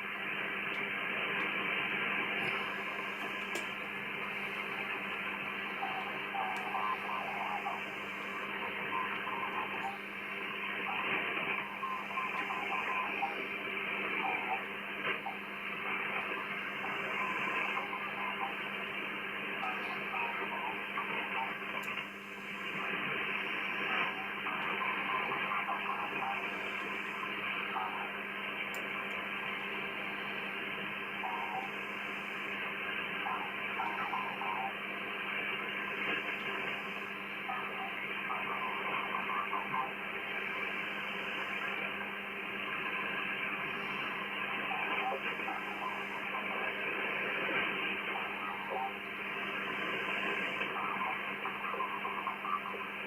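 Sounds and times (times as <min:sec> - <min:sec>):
faint radio signal tones: 0:00.0 - 0:53.0
radio static hiss: 0:00.0 - 0:53.0.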